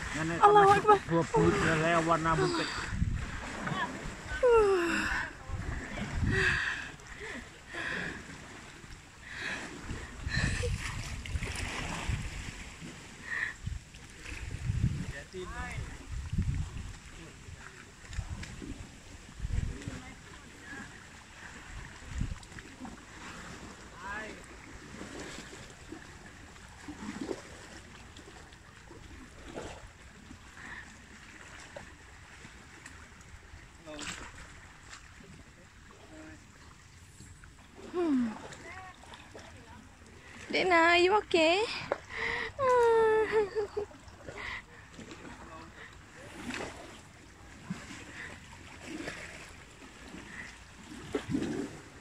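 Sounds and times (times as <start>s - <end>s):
water sloshing and splashing: 0.0s - 52.0s.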